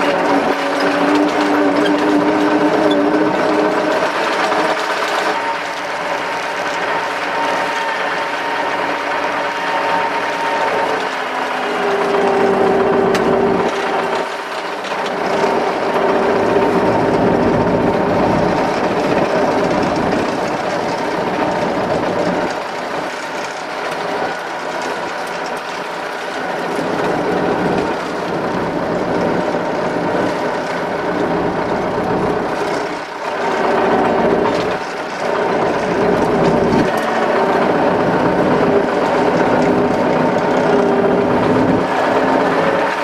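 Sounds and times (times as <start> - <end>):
cab rattling: 0.0 - 43.0
tractor diesel engine running: 0.0 - 43.0.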